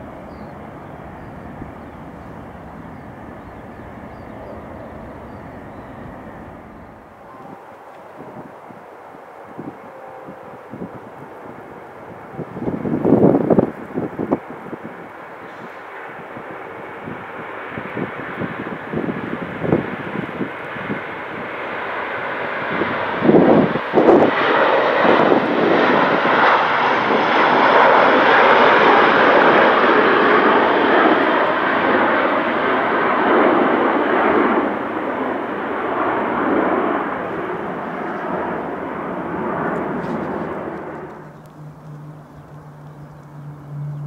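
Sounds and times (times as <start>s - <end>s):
aircraft engine flying over: 0.0s - 44.0s.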